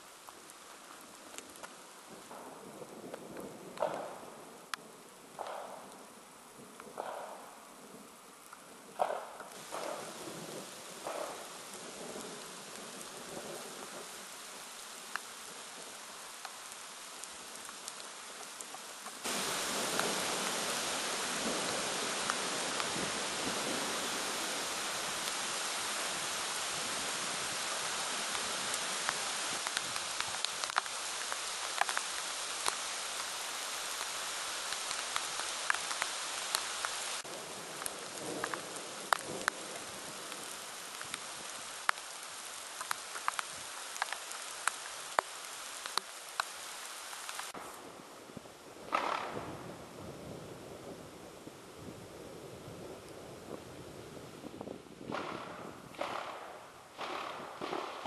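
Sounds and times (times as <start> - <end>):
heavy rain hissing: 0.0 - 3.0, 9.5 - 55.1
raindrops ticking close by: 0.0 - 47.8, 48.8 - 50.2, 55.0 - 58.0.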